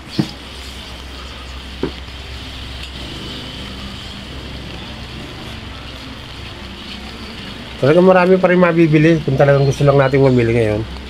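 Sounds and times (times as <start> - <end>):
background street noise: 0.0 - 11.0
vehicle engine running: 0.4 - 9.3.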